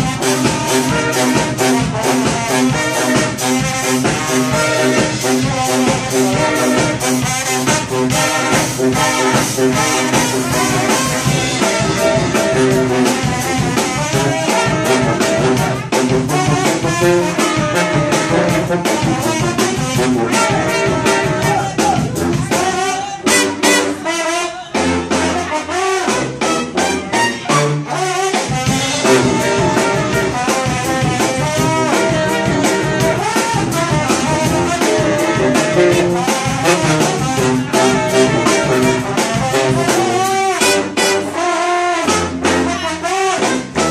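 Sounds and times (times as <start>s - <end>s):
brass band playing: 0.0s - 43.9s
drum kit: 0.0s - 43.9s.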